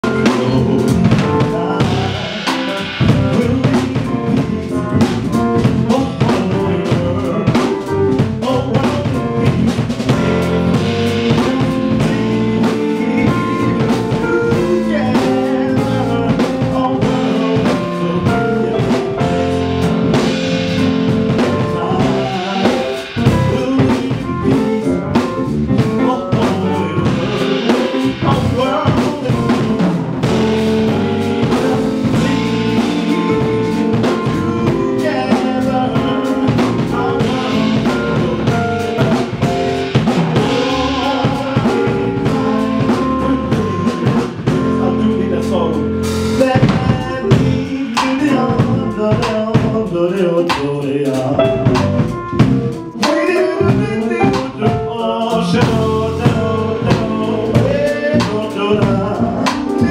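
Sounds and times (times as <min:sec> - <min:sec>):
drum kit with rimshots and cymbals: 0:00.0 - 0:59.9
electric bass guitar: 0:00.0 - 0:59.9
keyboard playing: 0:00.0 - 0:59.9.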